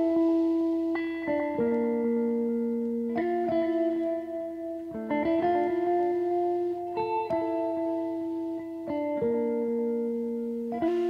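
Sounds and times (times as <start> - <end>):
held guitar-like chords: 0.0 - 11.0.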